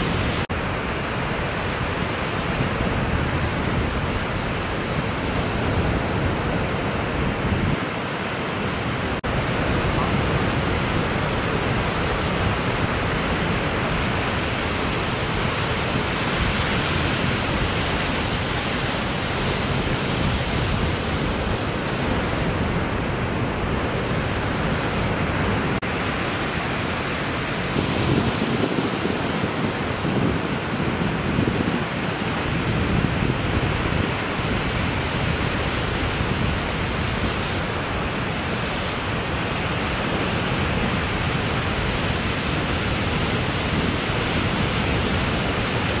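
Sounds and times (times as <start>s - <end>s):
ocean surf rushing: 0.0s - 46.0s
wind noise on microphone: 0.0s - 46.0s.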